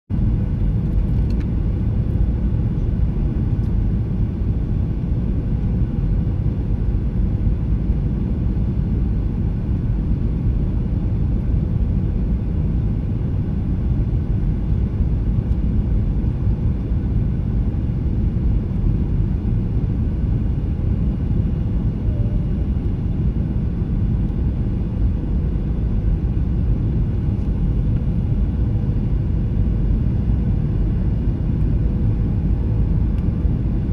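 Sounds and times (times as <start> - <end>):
faint steady hum: 0.1 - 33.9
jet engine rumble in cabin: 0.1 - 33.9.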